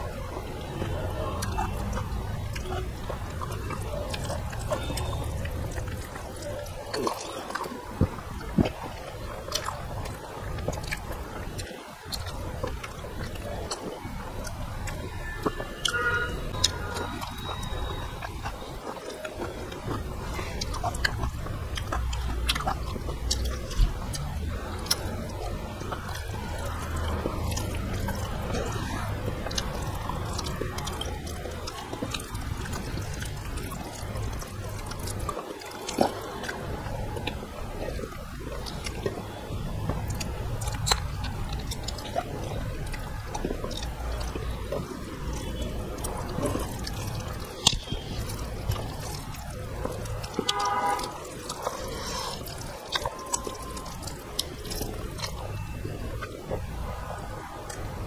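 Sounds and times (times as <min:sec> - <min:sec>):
chewing: 0:00.0 - 0:58.0
eating rice by hand: 0:00.0 - 0:58.0.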